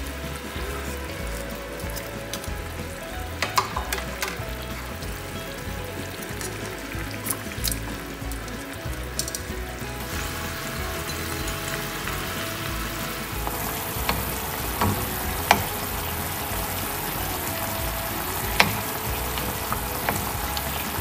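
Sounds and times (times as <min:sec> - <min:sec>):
sauce simmering and sizzling: 0:00.0 - 0:21.0.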